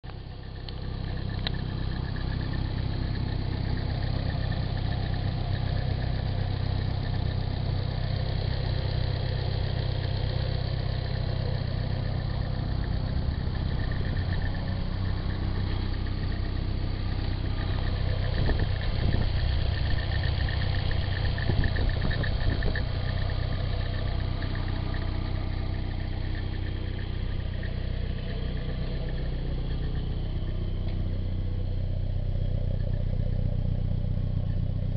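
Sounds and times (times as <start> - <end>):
car engine idling: 0.0 - 34.9
engine rattle: 0.0 - 34.9.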